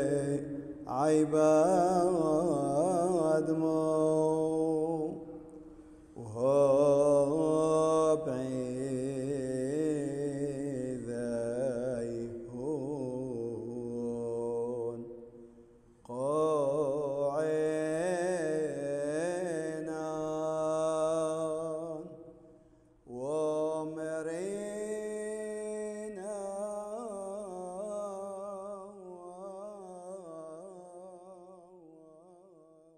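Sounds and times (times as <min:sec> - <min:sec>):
person chanting: 0:00.0 - 0:32.9.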